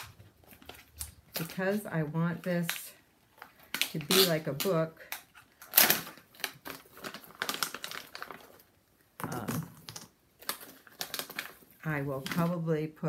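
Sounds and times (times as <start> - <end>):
crinkly foil bag rustling: 0.0 - 12.7.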